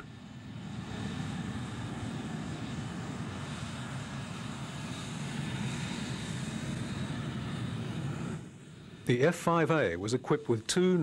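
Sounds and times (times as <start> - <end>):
aircraft engine running: 0.0 - 11.0.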